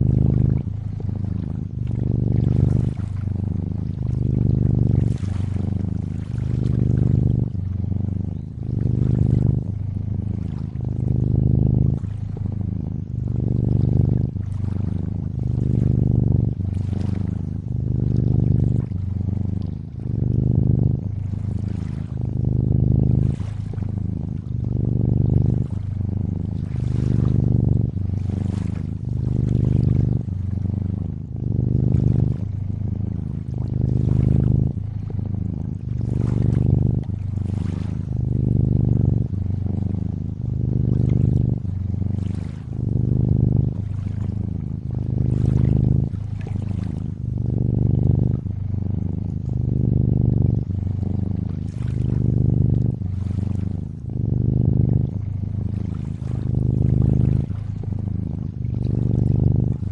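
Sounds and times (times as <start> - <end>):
cat purring: 0.0 - 59.9
water lapping and trickling: 0.0 - 59.9.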